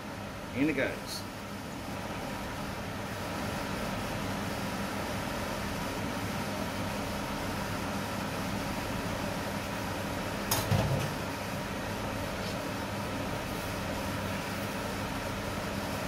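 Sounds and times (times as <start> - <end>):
induction cooktop whirring hum: 0.0 - 16.0.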